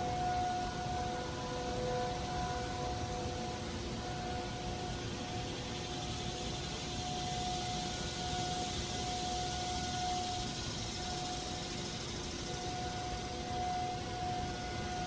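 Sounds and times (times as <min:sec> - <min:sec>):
distant warning sirens: 0:00.0 - 0:15.0.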